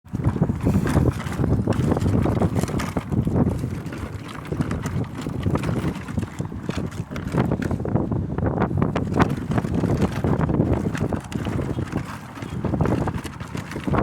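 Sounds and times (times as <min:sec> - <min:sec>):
wind buffeting microphone: 0:00.0 - 0:14.0
knocks and rattles: 0:00.1 - 0:07.9, 0:08.7 - 0:14.0
vehicle engine rumble: 0:00.1 - 0:14.0.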